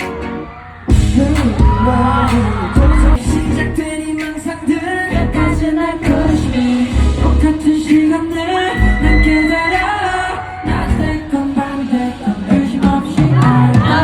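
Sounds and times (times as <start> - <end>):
pop song with singing: 0.0 - 14.0
pounding bass beat: 0.0 - 14.0.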